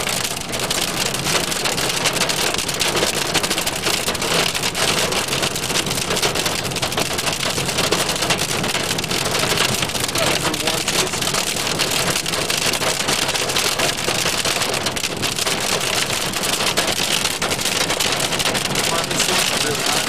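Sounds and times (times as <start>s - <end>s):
car low hum: 0.0s - 20.0s
heavy rain on car roof: 0.0s - 20.0s.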